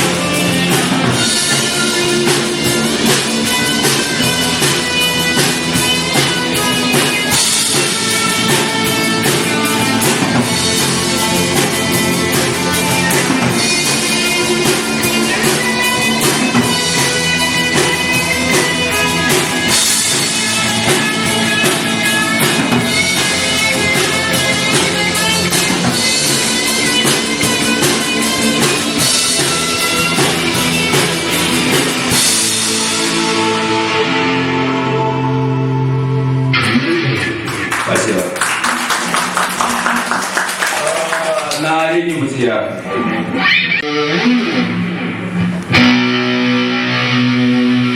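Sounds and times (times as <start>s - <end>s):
ringing electric guitar notes: 0.0s - 38.0s, 42.8s - 47.9s
rock band playing: 0.0s - 47.9s.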